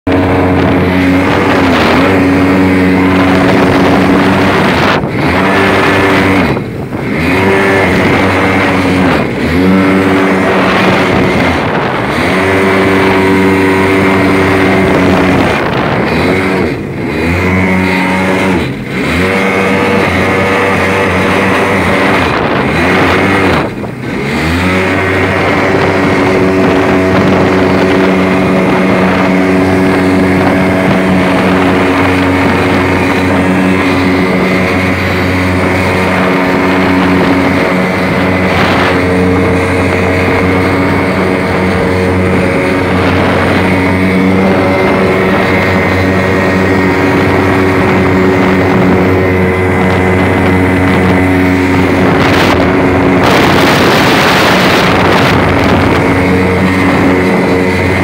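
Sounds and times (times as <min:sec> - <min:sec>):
jet ski engine running hard: 0:00.0 - 0:58.0
water rushing: 0:00.0 - 0:58.0.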